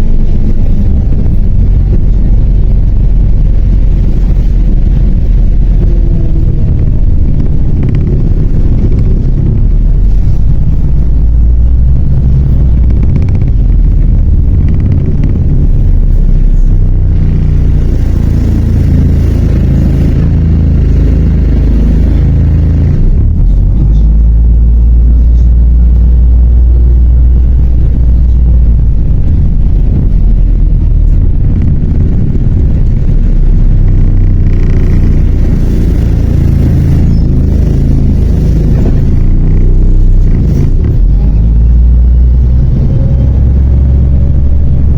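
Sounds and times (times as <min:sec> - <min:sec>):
bus diesel engine rumbling: 0:00.0 - 0:44.9.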